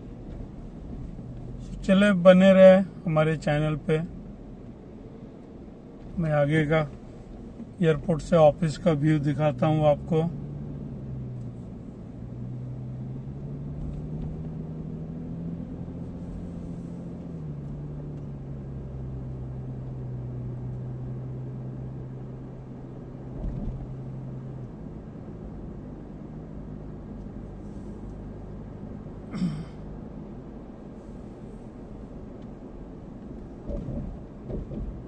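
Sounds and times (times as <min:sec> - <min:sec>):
car engine hum: 0:00.0 - 0:35.0
road noise: 0:00.0 - 0:35.0.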